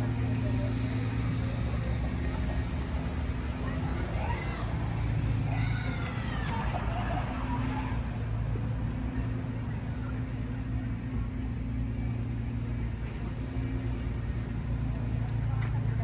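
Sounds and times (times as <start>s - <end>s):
motor vehicle engine hum: 0.0s - 16.0s.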